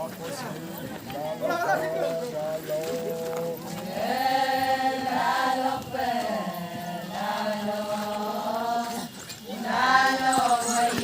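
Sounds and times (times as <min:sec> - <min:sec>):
voices chanting a folk song: 0:00.0 - 0:11.0.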